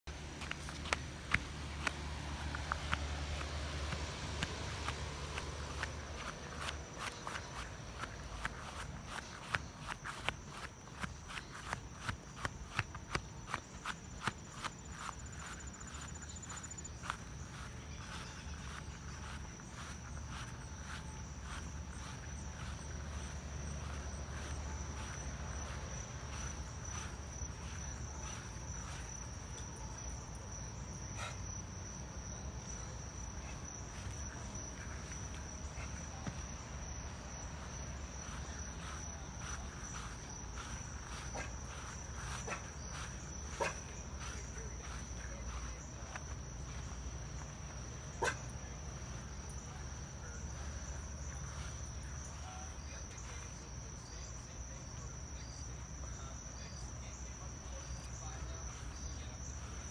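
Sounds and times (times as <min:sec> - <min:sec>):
footsteps on grass: 0:00.0 - 0:59.9
insects chirring: 0:00.1 - 0:59.9.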